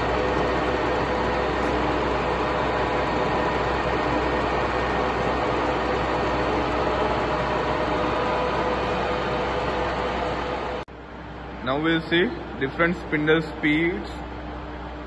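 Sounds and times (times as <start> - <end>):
milling machine running with gear whine: 0.0 - 15.0.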